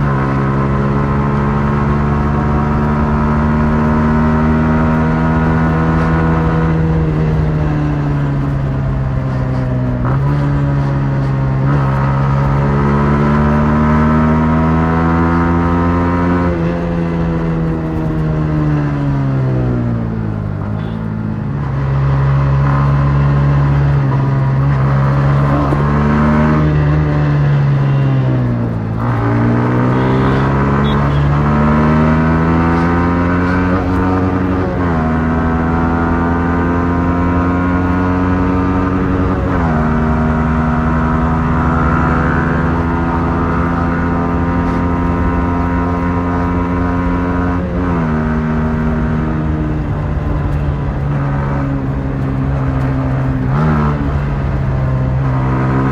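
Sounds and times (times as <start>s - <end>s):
motorcycle engine with gear shifts: 0.0s - 55.9s.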